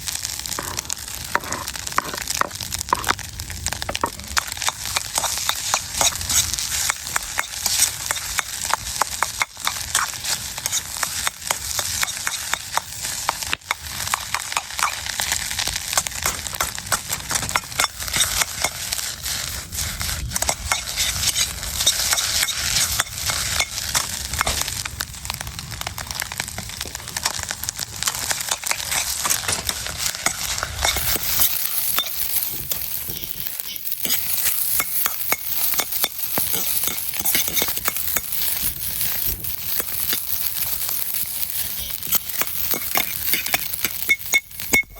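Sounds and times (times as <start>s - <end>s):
rice sizzling in a wok: 0.0s - 44.9s
spatula scraping and clacking on pan: 0.4s - 3.2s, 3.8s - 24.6s, 28.0s - 44.9s.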